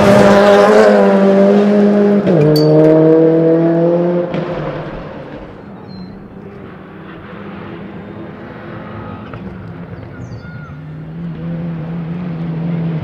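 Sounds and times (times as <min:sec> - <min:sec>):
distant rally car engine: 0:00.0 - 0:13.0.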